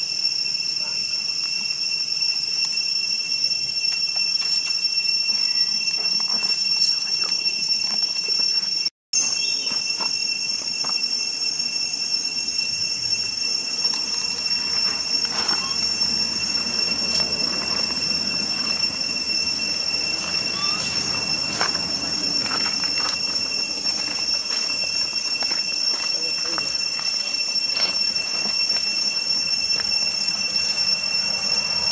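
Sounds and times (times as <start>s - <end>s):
high-pitched insect drone: 0.0s - 31.9s.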